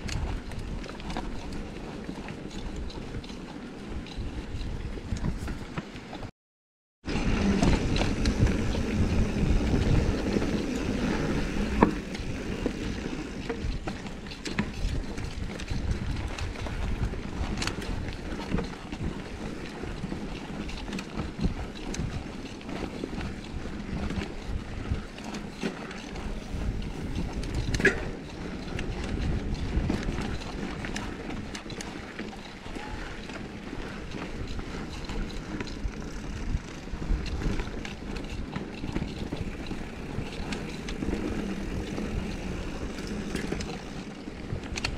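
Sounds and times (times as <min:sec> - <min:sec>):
wind buffeting microphone: 0:00.0 - 0:05.8, 0:07.1 - 0:44.9
bike tyres rumbling on dirt: 0:07.0 - 0:44.9
bike knocks and rattles: 0:07.1 - 0:19.9, 0:20.6 - 0:44.9.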